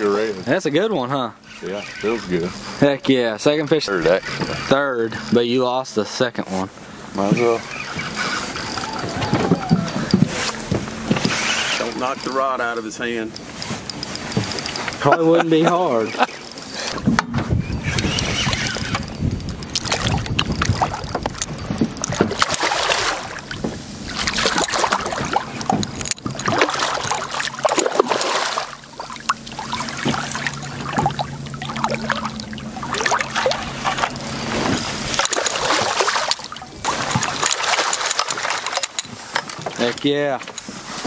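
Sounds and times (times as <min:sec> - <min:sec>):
low hum: 0:01.3 - 0:39.1
fish thrashing and splashing: 0:06.5 - 0:17.1, 0:17.7 - 0:40.6.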